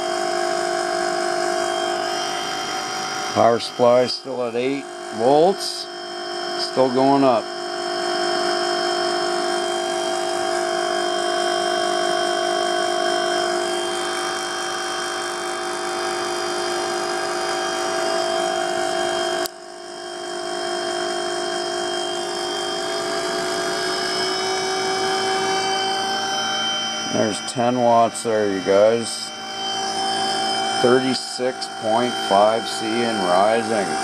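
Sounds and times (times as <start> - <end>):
electric motor whine: 0.0 - 34.0.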